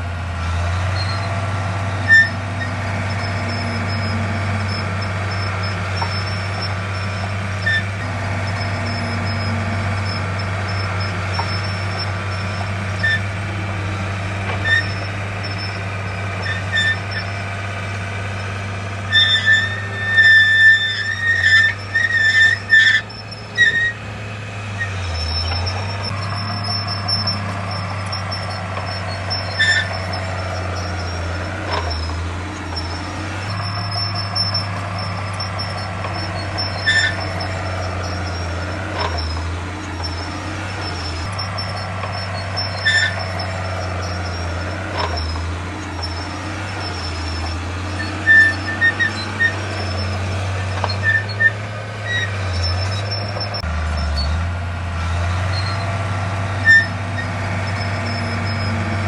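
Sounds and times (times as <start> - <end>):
diesel construction machinery drone: 0.0 - 59.0
short high-pitched squeaks: 0.8 - 24.0, 24.8 - 54.4, 55.2 - 59.0.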